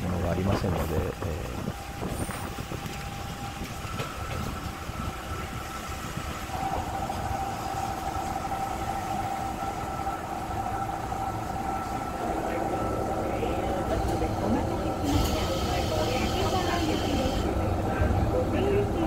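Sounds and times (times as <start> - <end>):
train engine drone: 0.0 - 19.0
steady whine: 0.2 - 19.0.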